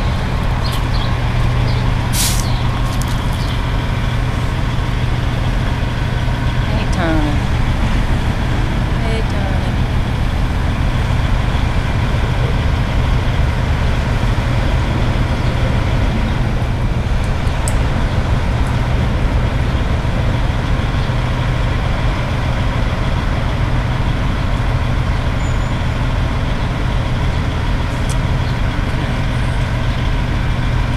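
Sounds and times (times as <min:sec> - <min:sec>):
vehicle engine idling: 0:00.0 - 0:30.9.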